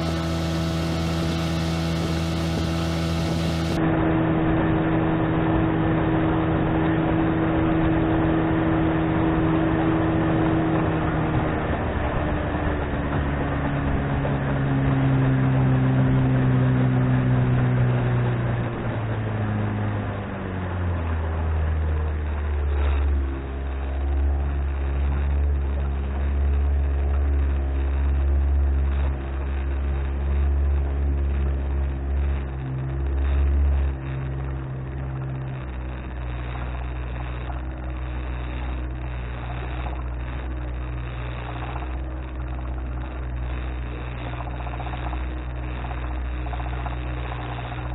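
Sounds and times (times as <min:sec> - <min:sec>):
outboard motor running: 0:00.0 - 0:47.9
water rushing past hull: 0:00.0 - 0:47.9
wind noise: 0:00.0 - 0:47.9.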